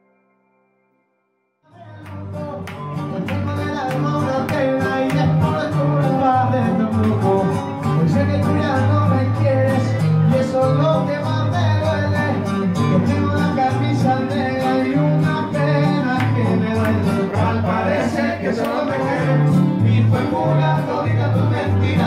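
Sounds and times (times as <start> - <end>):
person singing: 1.7 - 22.0
plucked guitar: 1.7 - 22.0
bass line: 1.8 - 22.0.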